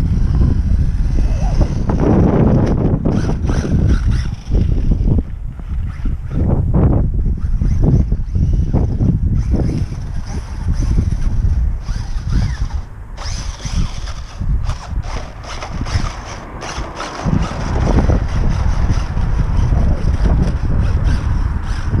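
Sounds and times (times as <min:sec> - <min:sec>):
electric motor whine: 0:00.0 - 0:22.0
wind buffeting microphone: 0:00.0 - 0:22.0.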